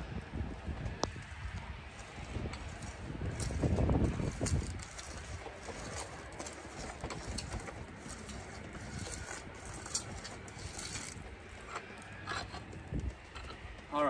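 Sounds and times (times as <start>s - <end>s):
hand auger grinding through soil: 0.4s - 13.7s.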